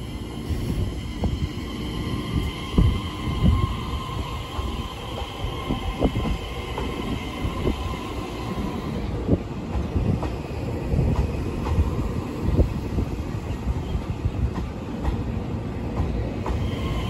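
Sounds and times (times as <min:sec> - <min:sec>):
low train rumble: 0:00.0 - 0:17.0.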